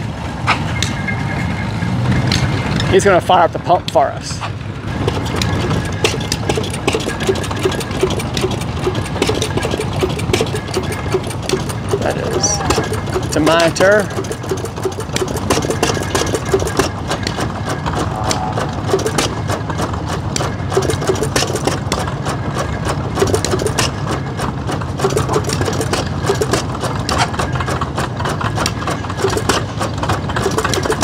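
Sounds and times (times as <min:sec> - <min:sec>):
stationary engine clattering: 0:00.0 - 0:31.0.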